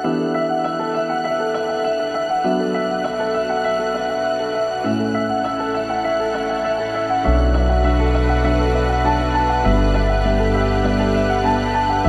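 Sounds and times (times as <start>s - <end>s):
calm music of held notes: 0.0s - 12.0s.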